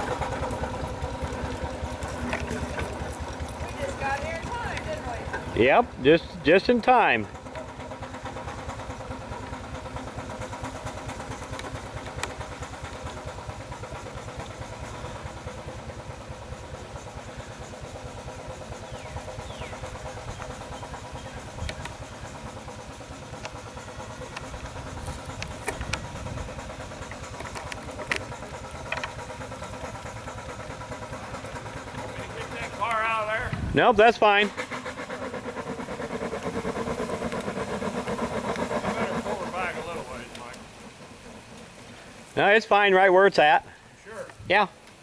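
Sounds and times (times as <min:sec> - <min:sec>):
steam engine beat: 0:00.0 - 0:44.8.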